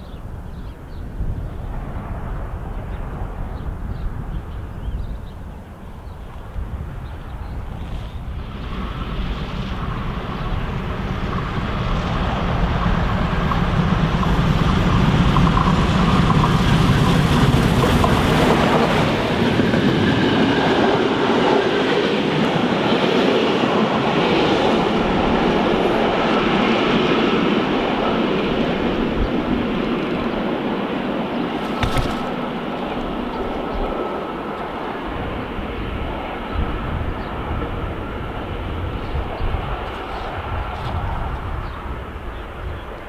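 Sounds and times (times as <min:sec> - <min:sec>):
steam train passing: 0:06.8 - 0:31.6, 0:32.3 - 0:43.0
wheels rattling on rails: 0:07.7 - 0:43.0.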